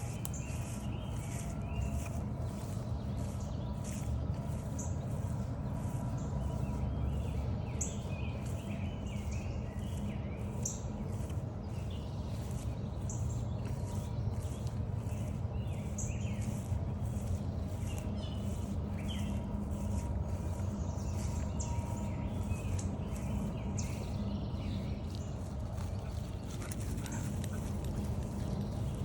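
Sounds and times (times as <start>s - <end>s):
songbirds singing: 0.0s - 29.0s
steady low rumble: 0.0s - 29.0s.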